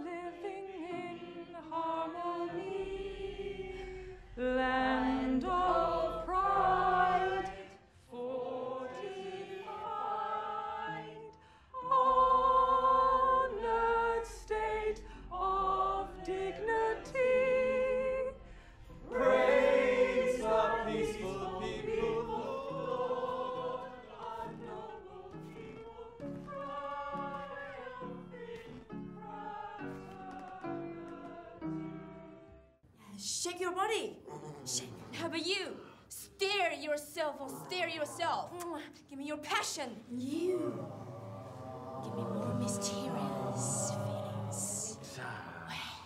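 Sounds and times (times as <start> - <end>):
group singing solemn anthem: 0.0 - 32.6, 40.0 - 46.0.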